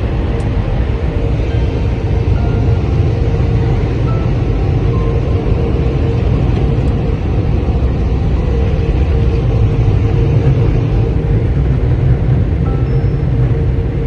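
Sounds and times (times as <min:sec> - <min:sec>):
car wash low rumble: 0:00.0 - 0:14.0.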